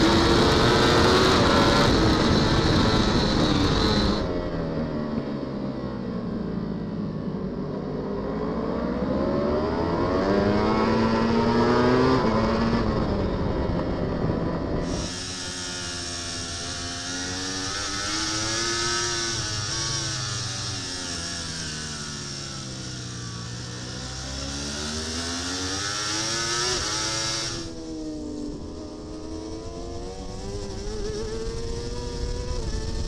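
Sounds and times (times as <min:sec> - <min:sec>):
racing motorcycle engine: 0:00.0 - 0:33.0.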